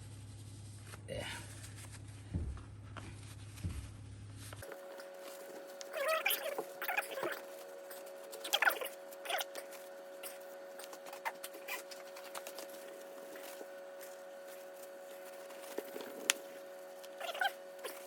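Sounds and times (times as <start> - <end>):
paper towel rustling and scratching: 0.0 - 18.0
steady faint hum: 0.0 - 18.0.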